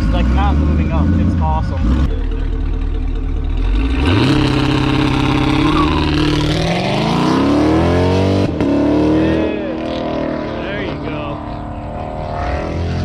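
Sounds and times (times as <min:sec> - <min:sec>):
car accelerating away: 0:00.0 - 0:13.0
car engine revving: 0:00.0 - 0:13.0.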